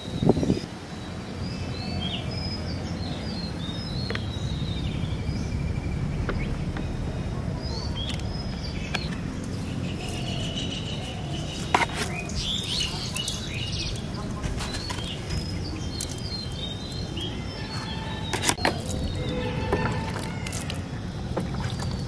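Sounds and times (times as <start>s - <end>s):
birds chirping: 0.0s - 22.0s
low outdoor rumble: 2.2s - 22.0s.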